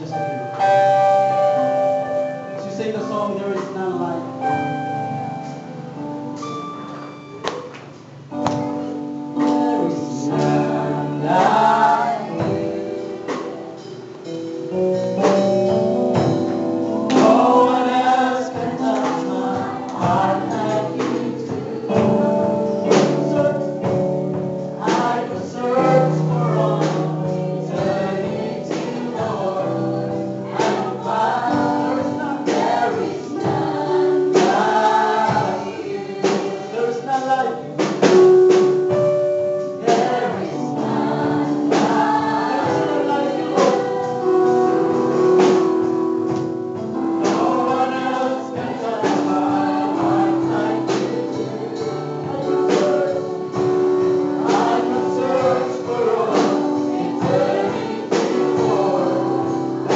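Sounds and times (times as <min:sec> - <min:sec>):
congregation singing: 0:00.0 - 0:59.9
keyboard chords: 0:00.0 - 0:59.9
drum hits: 0:08.4 - 0:36.7, 0:37.8 - 0:59.9.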